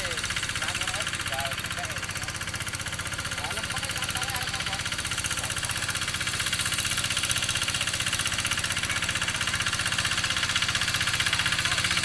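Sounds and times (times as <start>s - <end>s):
diesel tractor engine chugging: 0.0s - 12.0s.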